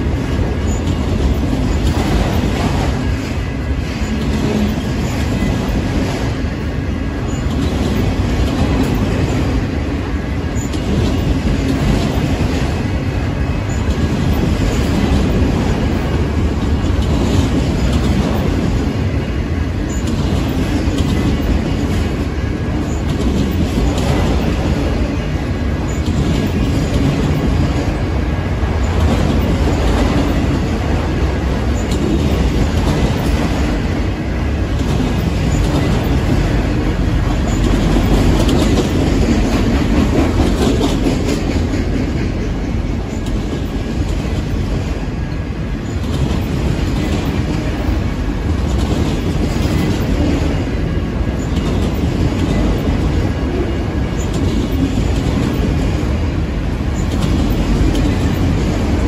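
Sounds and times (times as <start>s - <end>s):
freight train wheels rumbling on rail: 0.0s - 59.0s
train clacks: 0.0s - 59.0s.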